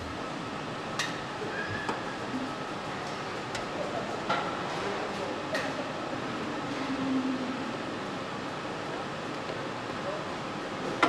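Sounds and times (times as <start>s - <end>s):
factory hall hiss and rumble: 0.0s - 11.0s.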